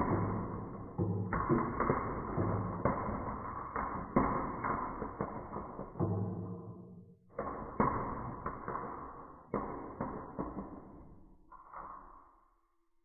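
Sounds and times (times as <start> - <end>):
marbles rolling down wooden track: 0.0 - 6.7, 7.3 - 11.2
marbles knocking on track: 0.0 - 12.0.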